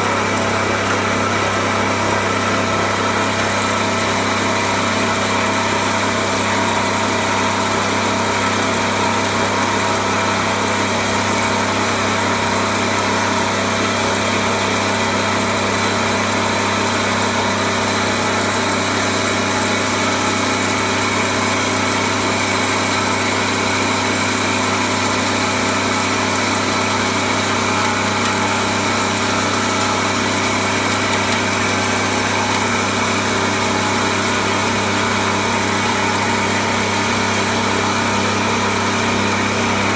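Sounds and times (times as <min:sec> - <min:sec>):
coffee grinder humming: 0:00.0 - 0:39.9.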